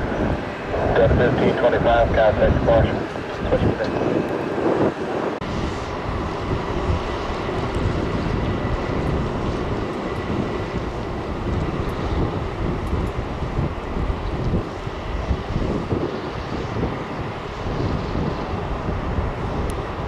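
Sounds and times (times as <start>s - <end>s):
jet engines at takeoff power: 0.0s - 20.0s
wind on microphone: 0.0s - 20.0s.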